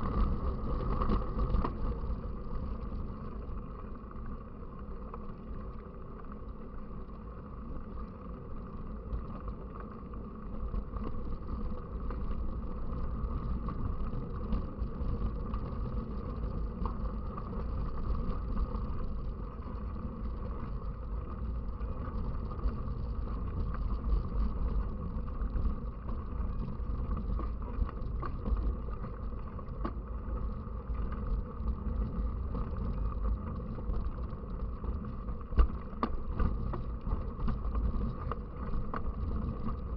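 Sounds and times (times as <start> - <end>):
bicycle rumble: 0.0 - 39.9.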